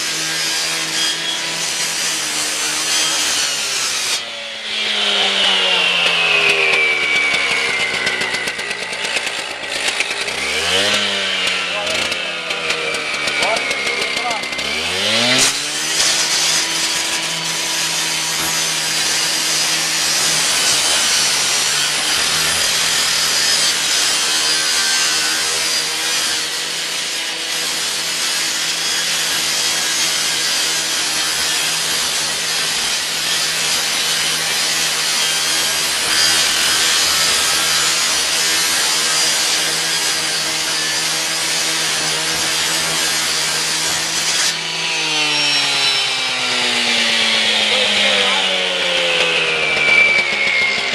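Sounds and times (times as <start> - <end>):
cut-off saw grinding metal: 0.0 - 50.9
saw engine running: 0.5 - 25.5, 26.6 - 50.9.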